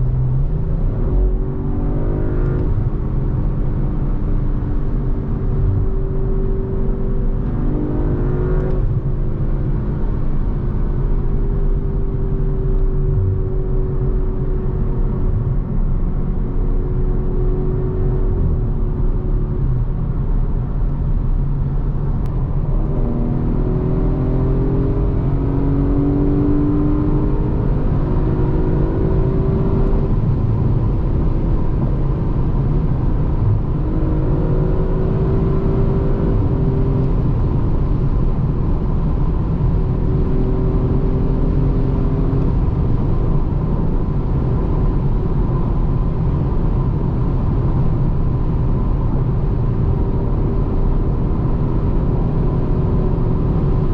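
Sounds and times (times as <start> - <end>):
car engine accelerating: 0.0 - 53.9
low road rumble: 0.0 - 53.9.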